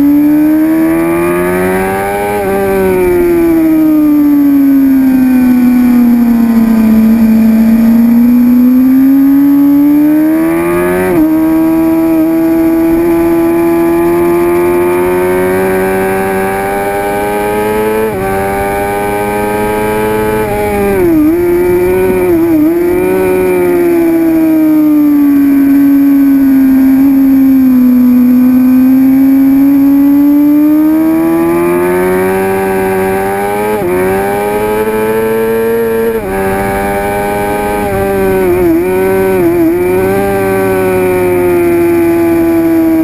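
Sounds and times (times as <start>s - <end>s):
motorcycle engine revving high: 0.0s - 43.0s.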